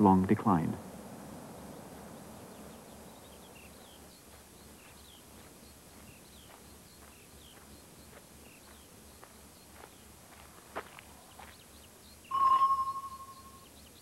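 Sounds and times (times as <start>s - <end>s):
quiet outdoor hiss: 0.0s - 14.0s
small bird chirping: 1.6s - 14.0s.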